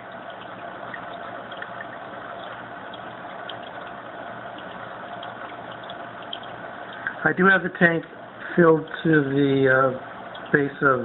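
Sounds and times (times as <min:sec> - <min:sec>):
faint motor hum: 0:00.0 - 0:11.0
water drips: 0:00.0 - 0:11.0
water trickling into tank: 0:00.0 - 0:11.0.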